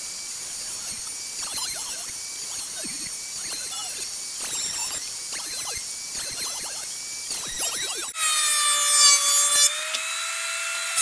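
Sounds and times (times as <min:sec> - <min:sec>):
thickness planer whining: 0:00.0 - 0:11.0.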